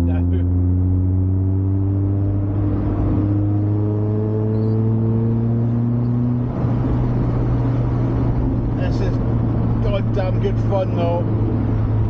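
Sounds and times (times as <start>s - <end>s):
car engine revving through gear: 0.0s - 12.0s.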